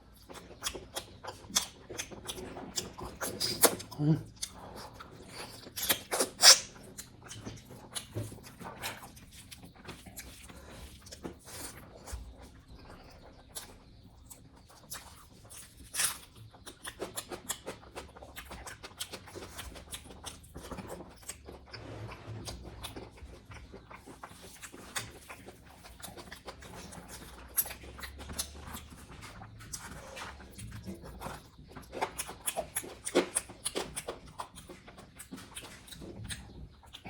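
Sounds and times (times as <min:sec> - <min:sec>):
person chewing and lip-smacking: 0:00.0 - 0:37.0.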